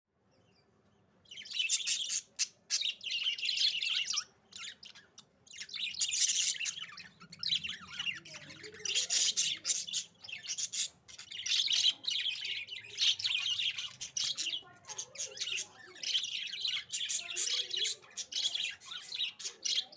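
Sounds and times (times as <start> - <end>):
budgerigars chirping: 1.2 - 19.9.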